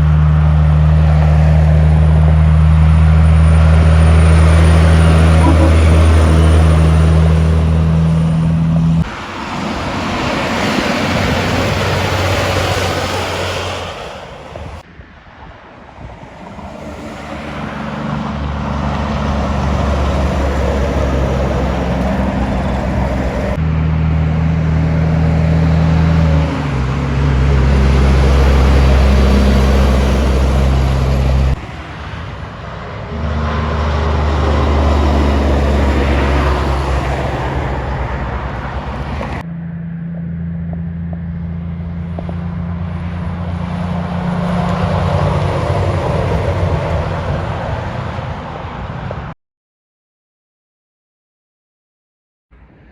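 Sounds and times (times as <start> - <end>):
diesel truck engine drone: 0.0 - 49.4.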